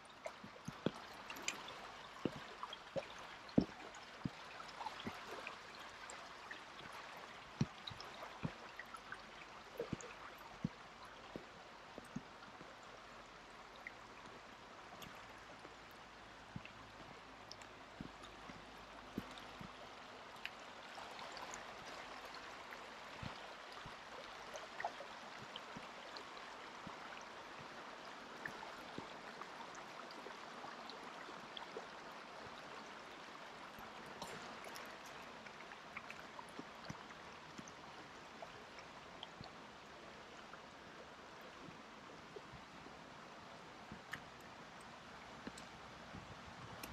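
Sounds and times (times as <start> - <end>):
faint ticks and clicks: 0.0 - 46.9
stream running: 0.0 - 46.9.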